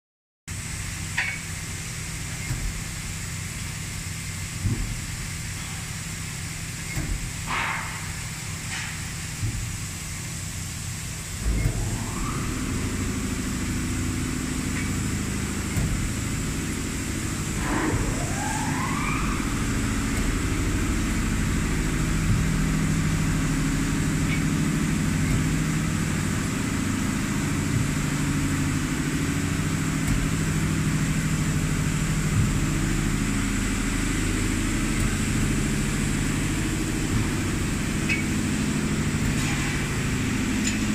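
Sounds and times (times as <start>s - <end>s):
pump motor whining and humming: 0.5s - 40.9s.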